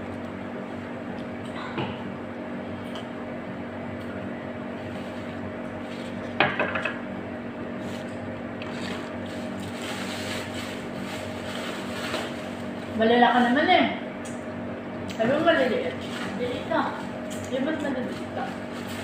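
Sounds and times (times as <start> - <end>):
room hum: 0.0 - 19.0.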